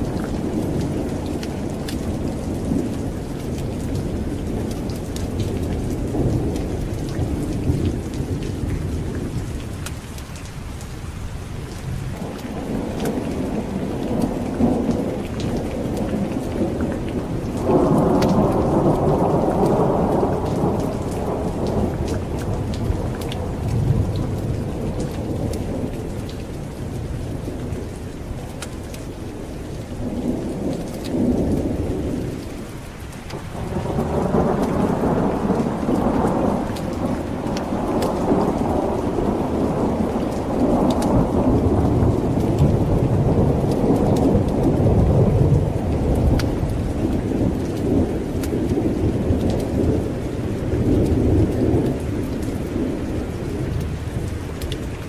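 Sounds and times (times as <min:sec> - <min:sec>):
rolling thunder: 0:00.0 - 0:10.0, 0:11.9 - 0:32.4, 0:33.3 - 0:55.0
steady rain: 0:00.0 - 0:55.0.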